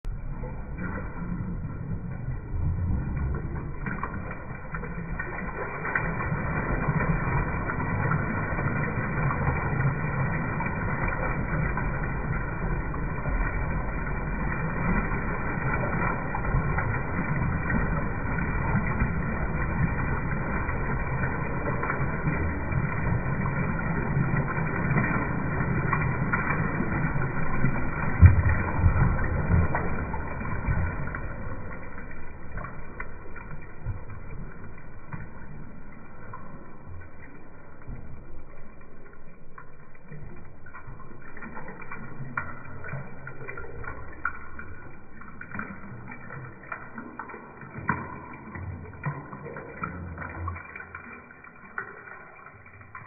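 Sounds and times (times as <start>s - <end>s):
slowed toilet flushing: 0.0s - 53.0s.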